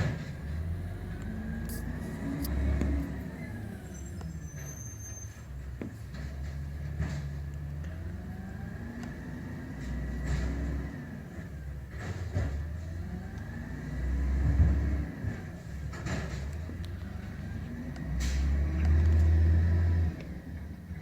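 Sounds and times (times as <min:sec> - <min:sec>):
garbage truck engine revving: 0:00.0 - 0:05.4, 0:06.2 - 0:20.8.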